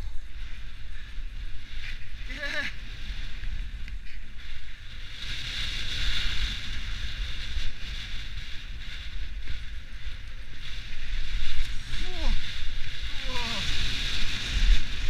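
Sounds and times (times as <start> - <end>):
skis sliding over snow: 0.0 - 15.0
wind rumbling on microphone: 0.0 - 15.0.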